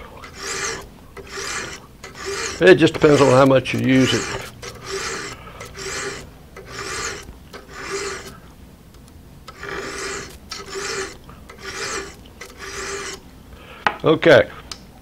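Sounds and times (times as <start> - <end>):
file rasping on metal blade: 0.0 - 8.4, 9.5 - 13.2.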